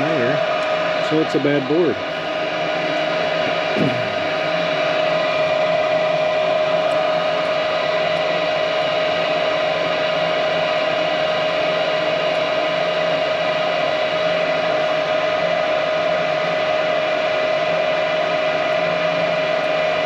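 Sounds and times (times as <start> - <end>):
furnace fan motor humming: 0.0 - 20.0.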